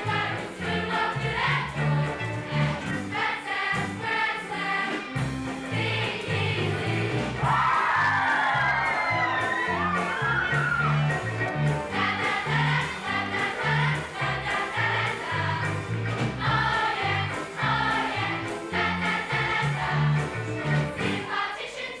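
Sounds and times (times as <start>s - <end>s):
girls chorus singing: 0.0s - 11.1s, 11.8s - 22.0s
musical accompaniment with bass: 0.0s - 21.5s.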